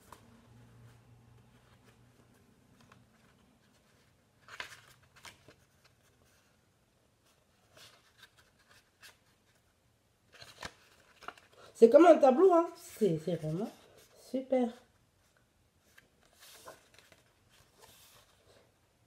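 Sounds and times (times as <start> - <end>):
paper pages rustling: 0.0 - 6.6, 7.2 - 18.8.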